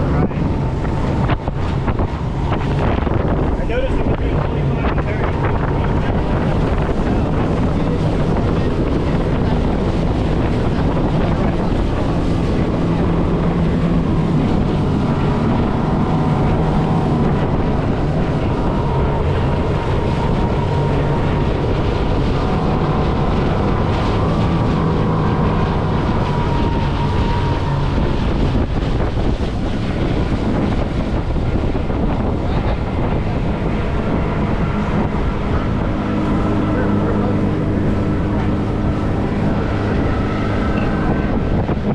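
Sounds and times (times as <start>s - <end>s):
outboard motor running: 0.0s - 41.9s
water rushing past hull: 0.0s - 41.9s
wind buffeting microphone: 0.0s - 41.9s.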